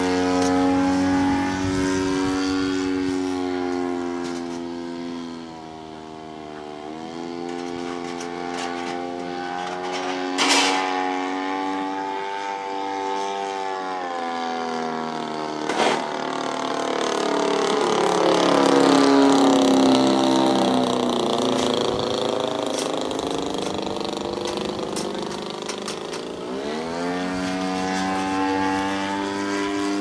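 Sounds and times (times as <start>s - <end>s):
small two-stroke engine running: 0.0s - 30.0s.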